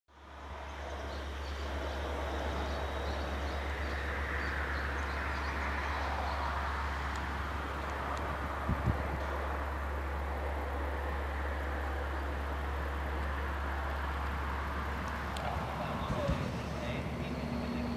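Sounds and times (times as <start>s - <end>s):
train rumbling: 0.2s - 17.9s.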